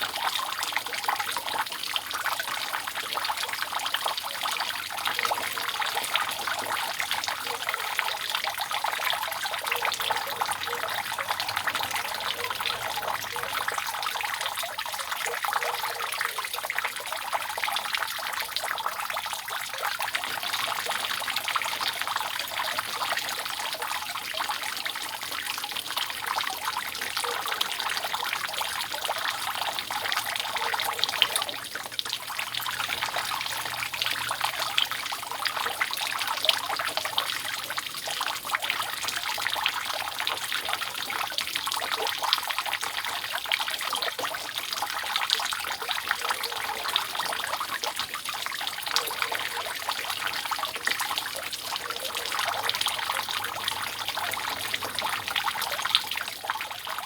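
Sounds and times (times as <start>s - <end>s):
rainwater dripping off roof: 0.0s - 57.0s.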